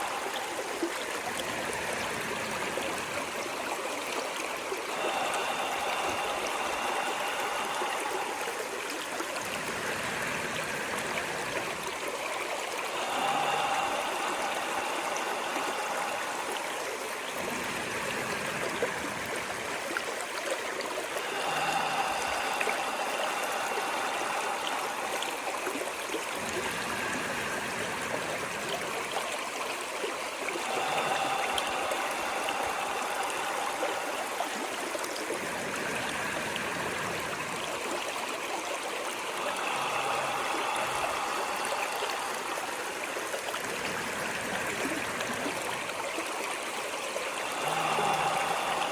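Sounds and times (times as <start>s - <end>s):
stream of running water: 0.0s - 48.9s.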